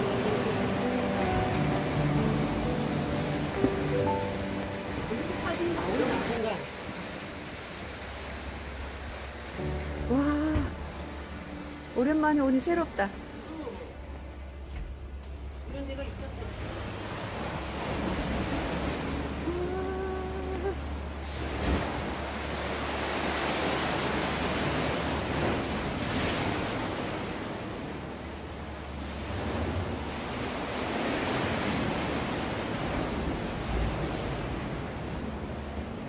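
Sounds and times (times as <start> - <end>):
sea waves washing in a cave: 0.0 - 36.0.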